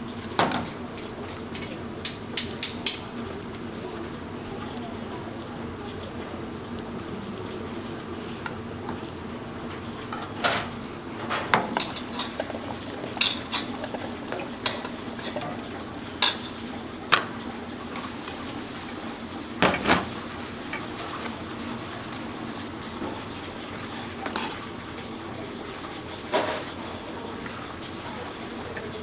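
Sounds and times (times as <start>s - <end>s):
utensils and dishes clattering: 0.1s - 4.1s, 8.3s - 29.0s.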